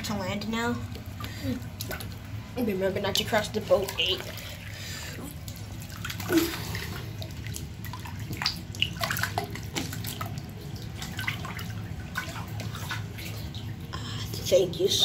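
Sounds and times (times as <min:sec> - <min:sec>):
water dripping: 0:00.0 - 0:14.6
bathwater splashing and sloshing: 0:00.0 - 0:15.0
low steady hum: 0:00.0 - 0:15.0.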